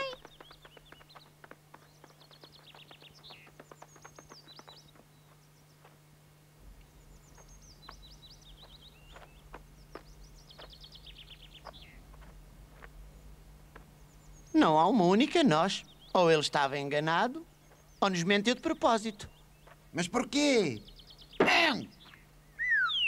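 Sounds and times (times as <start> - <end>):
birdsong chirps and trills: 0.0 - 23.0
steady low hum: 0.0 - 23.0.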